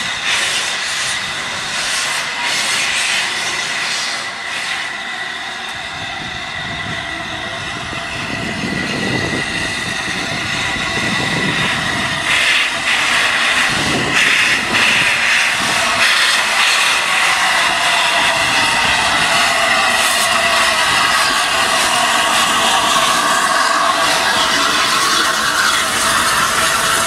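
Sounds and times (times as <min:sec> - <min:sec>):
steam hissing: 0:00.0 - 0:27.0
steam locomotive rumbling: 0:00.0 - 0:27.0.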